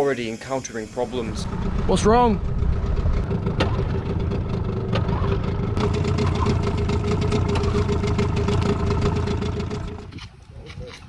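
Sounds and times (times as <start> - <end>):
outboard motor idling: 0.8 - 10.2.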